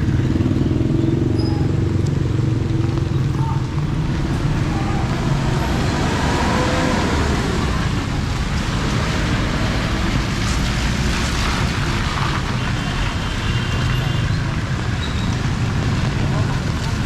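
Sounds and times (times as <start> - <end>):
heavy rain: 0.0 - 17.0
water washing on road: 1.7 - 17.0.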